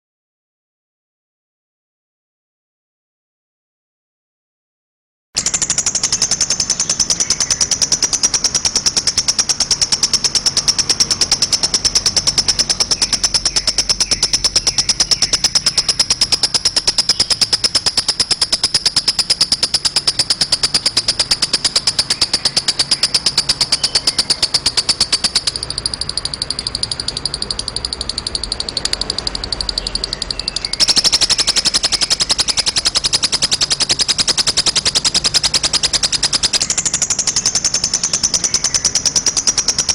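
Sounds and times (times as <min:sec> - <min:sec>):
lovebird chattering trill: 0:05.4 - 0:39.9.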